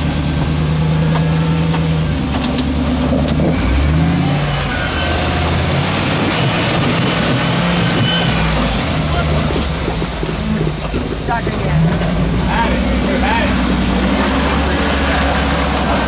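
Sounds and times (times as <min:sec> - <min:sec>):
vehicle engine revving under load: 0:00.0 - 0:16.0.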